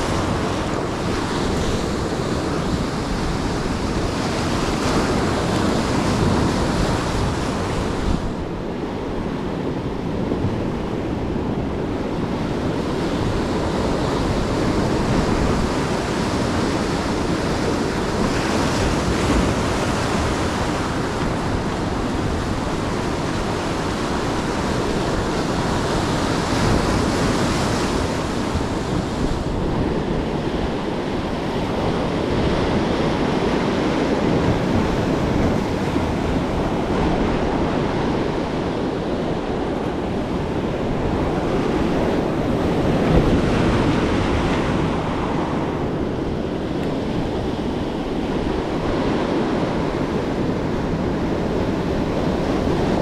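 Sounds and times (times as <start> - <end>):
ocean surf breaking: 0.0 - 53.0
wind buffeting microphone: 0.0 - 53.0.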